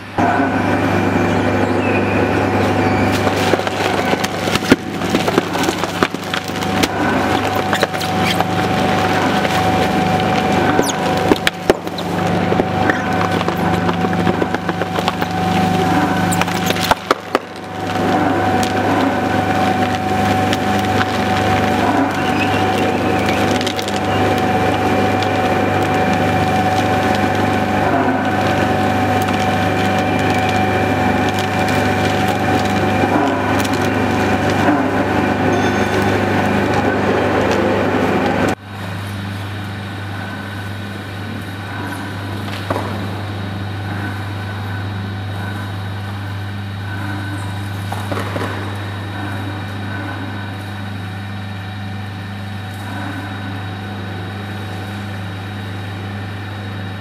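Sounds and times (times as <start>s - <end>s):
drive motor hum: 0.0s - 57.0s
plastic shredder tearing plastic: 1.9s - 38.6s, 41.3s - 45.8s, 46.4s - 57.0s.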